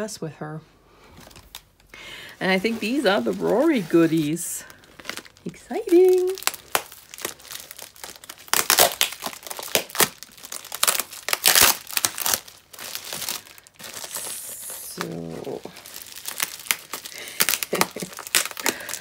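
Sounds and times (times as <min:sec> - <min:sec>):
packaging crinkling and rustling: 0:01.2 - 0:19.0.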